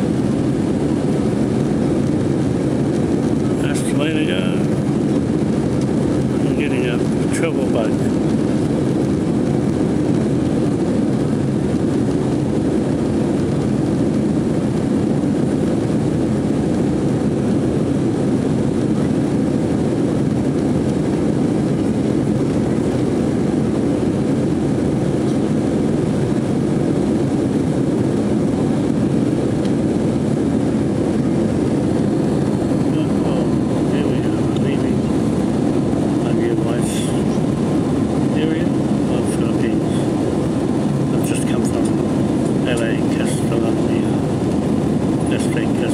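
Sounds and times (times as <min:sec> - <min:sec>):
jet airliner cabin noise: 0:00.0 - 0:45.9.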